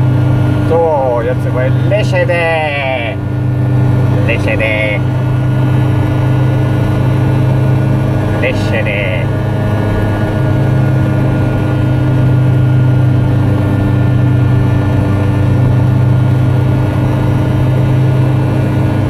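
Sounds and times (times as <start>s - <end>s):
car engine and tyre drone: 0.0s - 19.0s.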